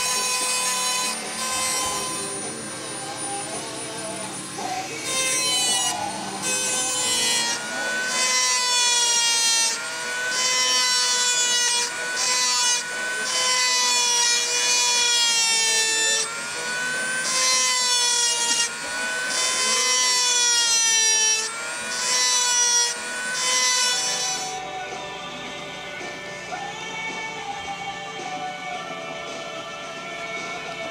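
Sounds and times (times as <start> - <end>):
rotary tool grinding fiberglass: 0.0 - 30.9.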